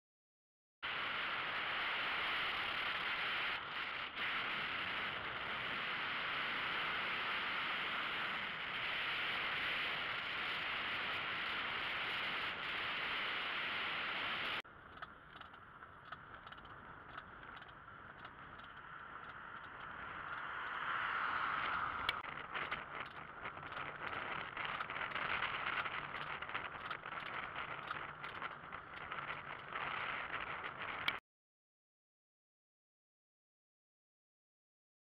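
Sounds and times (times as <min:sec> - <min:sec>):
wind: 0:00.8 - 0:31.2.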